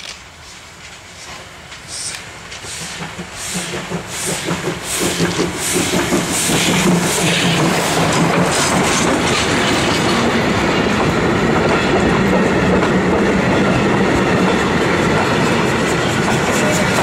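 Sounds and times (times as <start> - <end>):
steam locomotive exhaust chuffing: 1.2 - 17.0
carriages wheels clattering on rails: 2.5 - 17.0.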